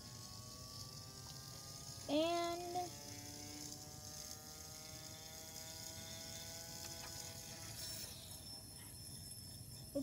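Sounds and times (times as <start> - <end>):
electric motor humming: 0.0 - 10.0
spinning rotor high whine: 0.0 - 10.0.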